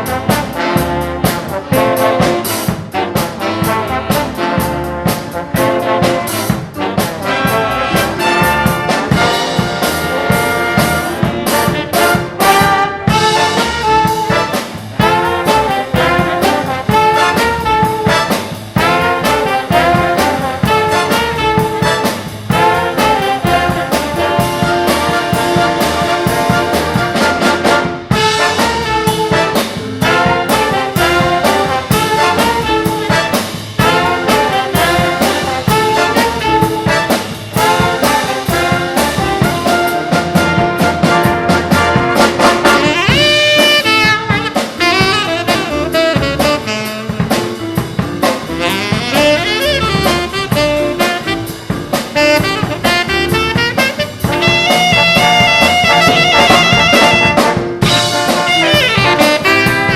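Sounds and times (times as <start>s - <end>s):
big band playing: 0.0s - 59.9s
trumpets and trombones: 0.0s - 59.9s.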